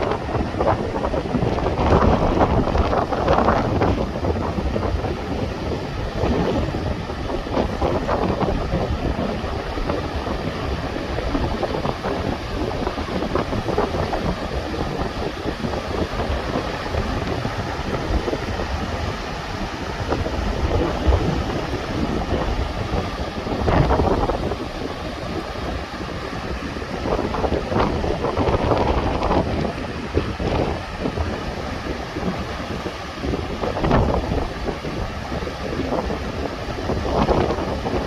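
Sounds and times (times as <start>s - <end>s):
stream rushing: 0.0s - 38.0s.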